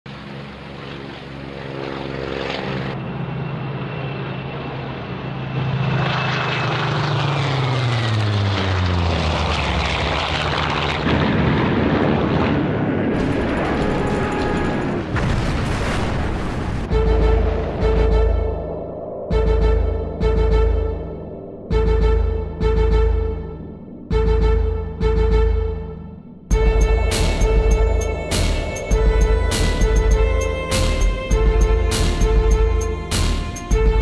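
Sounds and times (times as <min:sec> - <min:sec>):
propeller aircraft passing: 0:00.1 - 0:15.2, 0:16.2 - 0:34.0.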